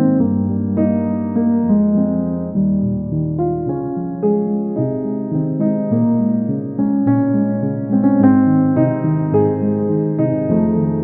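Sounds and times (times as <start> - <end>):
soft electric piano chords: 0.0 - 11.0.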